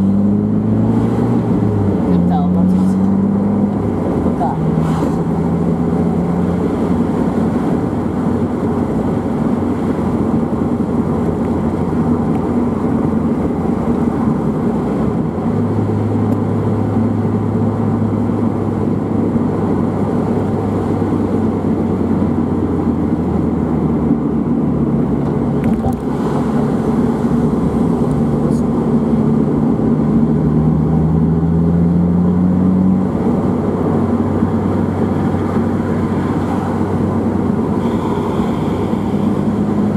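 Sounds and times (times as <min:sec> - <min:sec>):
car engine cruising: 0:00.0 - 0:39.9
tyre and road noise: 0:00.0 - 0:39.9.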